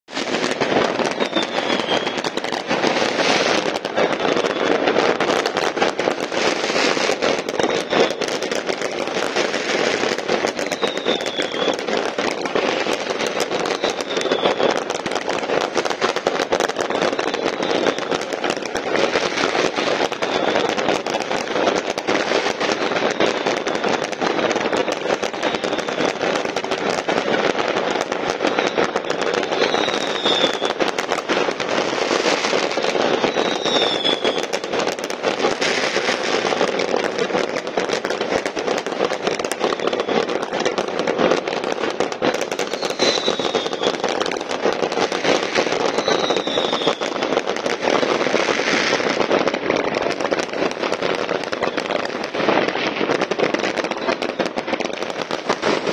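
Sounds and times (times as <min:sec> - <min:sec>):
fireworks crackling and banging: 0:00.0 - 0:55.9
firework whistles: 0:00.1 - 0:55.9.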